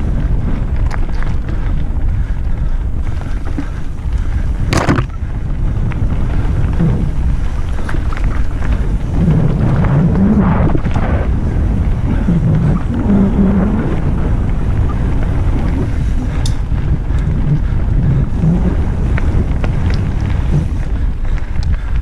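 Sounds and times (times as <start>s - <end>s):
bike clicks and rattles: 0.0s - 22.0s
bike tyres rumbling on gravel: 0.0s - 22.0s
wind buffeting microphone: 0.0s - 22.0s.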